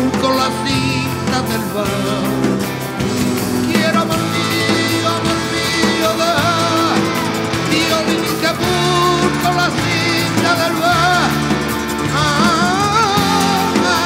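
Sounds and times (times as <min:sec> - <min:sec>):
man singing ornamented line: 0:00.0 - 0:14.0
rock band playing: 0:00.0 - 0:14.0.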